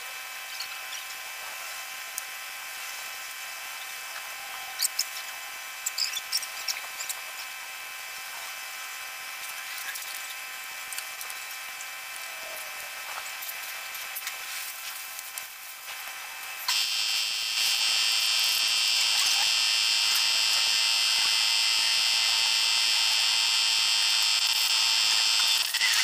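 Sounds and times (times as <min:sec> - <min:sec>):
high-pitched electric buzz: 0:01.9 - 0:26.0.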